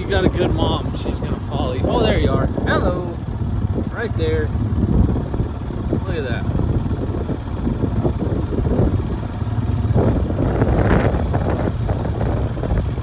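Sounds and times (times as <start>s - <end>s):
low engine rumble: 0.0s - 13.0s
wind buffeting microphone: 0.0s - 13.0s.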